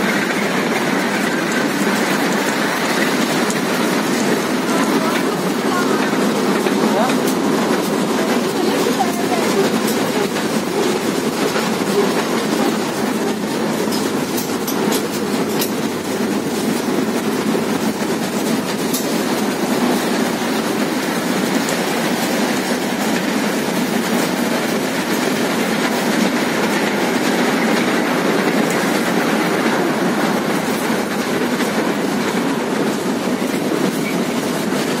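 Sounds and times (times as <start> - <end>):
ride-on train running: 0.0 - 35.0.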